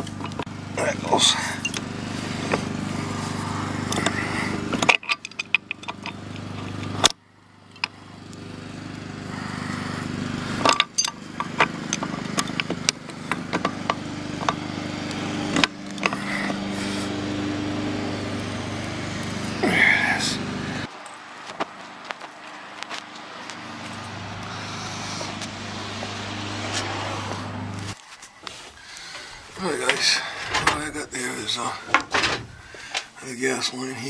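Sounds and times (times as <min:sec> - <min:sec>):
engine-like drone: 0:00.0 - 0:34.0.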